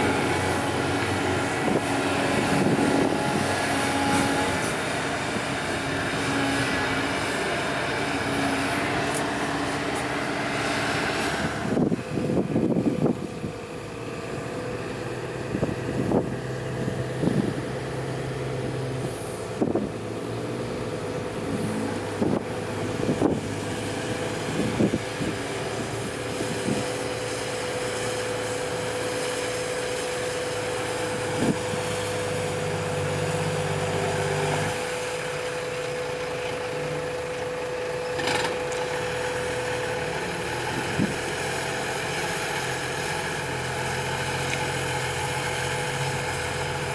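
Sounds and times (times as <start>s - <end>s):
excavator diesel engine: 0.0s - 46.9s
truck diesel idling: 0.0s - 46.9s.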